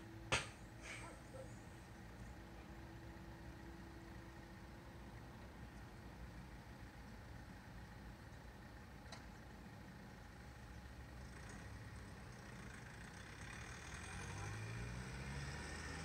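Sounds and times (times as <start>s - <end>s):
distant motor vehicle engine hum: 0.0s - 16.0s.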